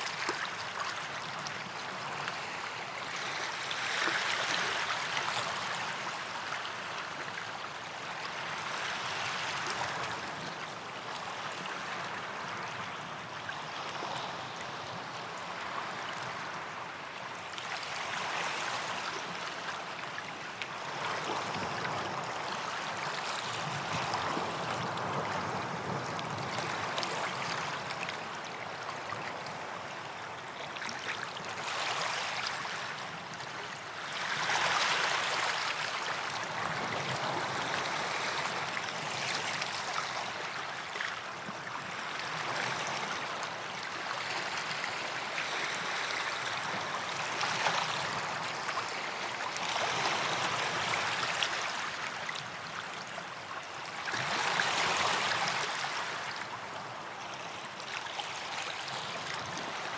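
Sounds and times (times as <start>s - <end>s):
small waves washing on beach: 0.0s - 59.9s.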